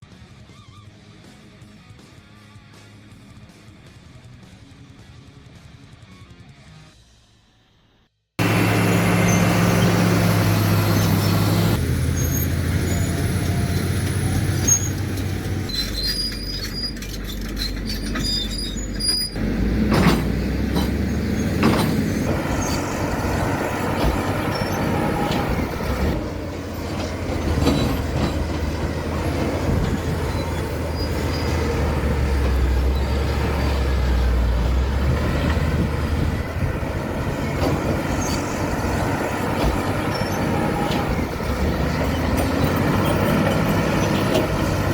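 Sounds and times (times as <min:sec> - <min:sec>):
bulldozer diesel engine: 0:08.4 - 0:44.9
clanking tracks: 0:08.4 - 0:44.9
high metallic squeaks: 0:08.4 - 0:44.9.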